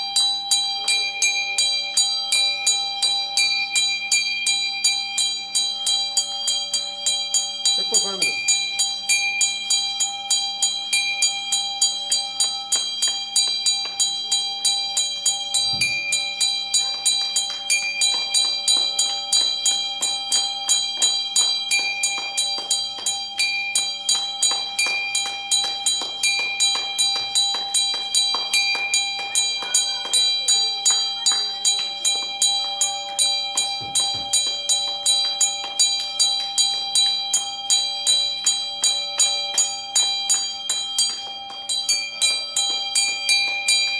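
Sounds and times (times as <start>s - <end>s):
hand bell ringing: 0.0s - 43.9s.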